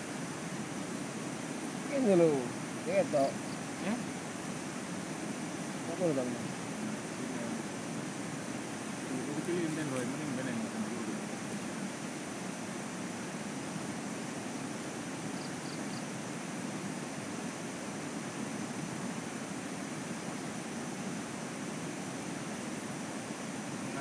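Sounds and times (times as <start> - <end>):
faint high whine: 0.0 - 24.0
steady rushing outdoor noise: 0.0 - 24.0.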